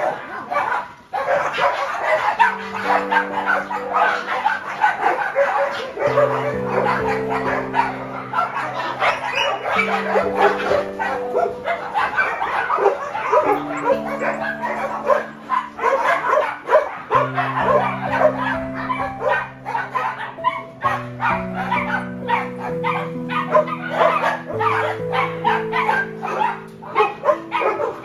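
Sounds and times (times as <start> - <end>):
dogs barking and yipping: 0.0 - 28.0
music of slow sustained chords: 1.5 - 28.0.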